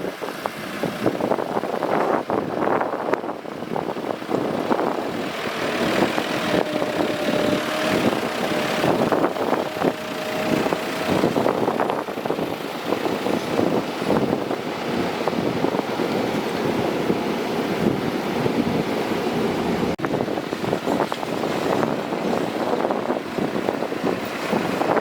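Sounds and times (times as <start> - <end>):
excavator engine: 0.0 - 25.0.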